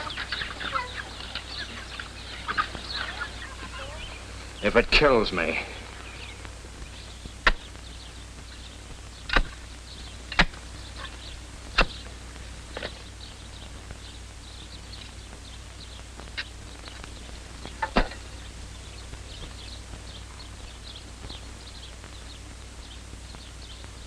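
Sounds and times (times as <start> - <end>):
birds chirping: 0.0 - 24.0
low hum: 0.0 - 24.0.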